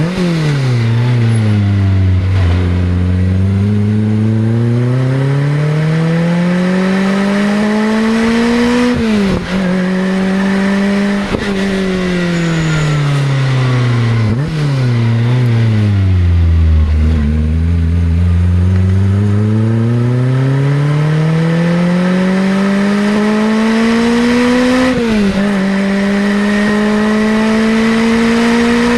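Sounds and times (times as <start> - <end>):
car engine revving and shifting: 0.0 - 28.9.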